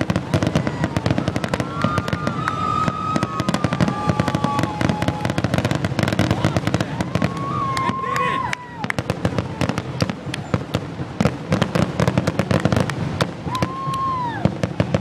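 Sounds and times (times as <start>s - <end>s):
firework whistling tone: 0.0s - 15.0s
fireworks banging and crackling: 0.0s - 15.0s.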